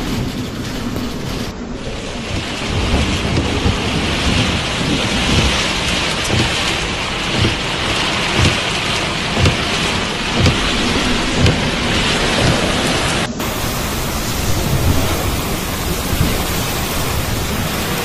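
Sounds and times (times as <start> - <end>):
heavy rain pouring: 0.0 - 18.0
wind gusts thumping and rumbling: 0.0 - 18.0.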